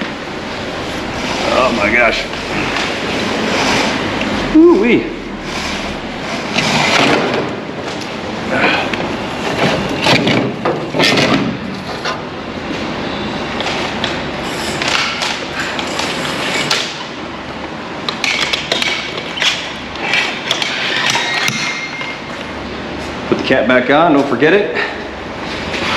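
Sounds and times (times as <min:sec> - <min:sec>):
constant background noise: 0:00.0 - 0:25.9.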